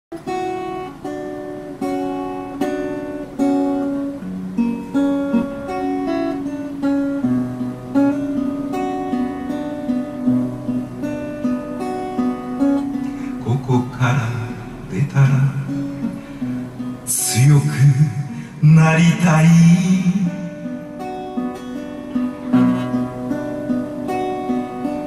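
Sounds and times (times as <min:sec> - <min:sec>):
solo guitar playing: 0:00.1 - 0:25.0.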